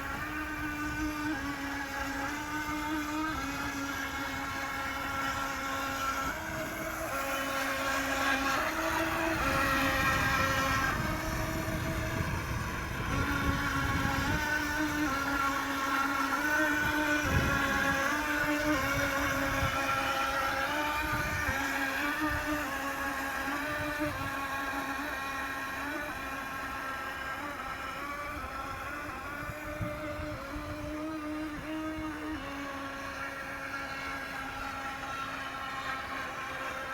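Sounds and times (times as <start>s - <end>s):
toy boat electric motors whining: 0.0s - 36.9s.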